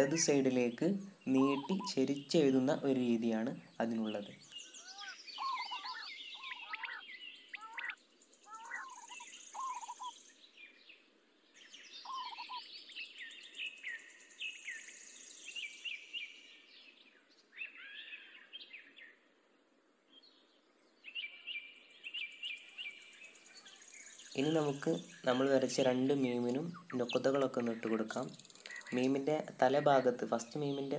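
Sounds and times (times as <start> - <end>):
lower bird calls: 0.0 - 10.8, 11.6 - 19.2, 21.0 - 30.9
birds chirping: 0.0 - 30.9.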